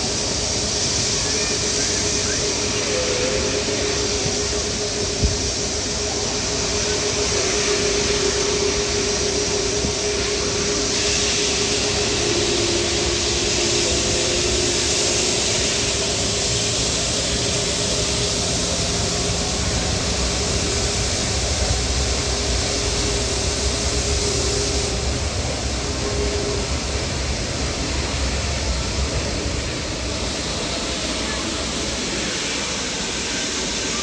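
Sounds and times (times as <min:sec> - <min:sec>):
jet engines running: 0:00.0 - 0:34.0.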